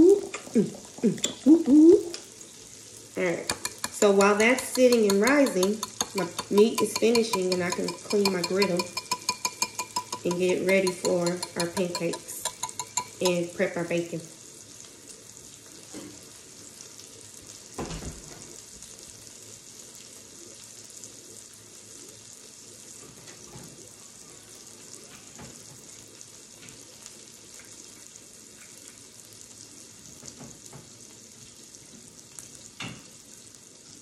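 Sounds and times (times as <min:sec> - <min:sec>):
meat sizzling on a griddle: 0:00.9 - 0:34.0.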